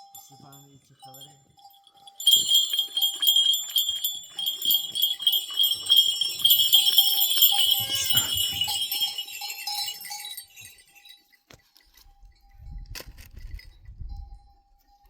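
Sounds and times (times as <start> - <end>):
animal bells clinking: 0.0 - 15.0.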